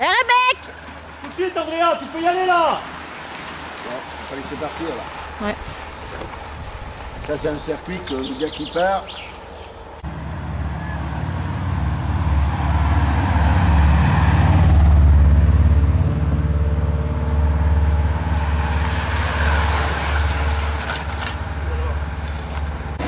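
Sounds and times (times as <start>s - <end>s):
car engine and tyre noise: 0.7s - 23.0s.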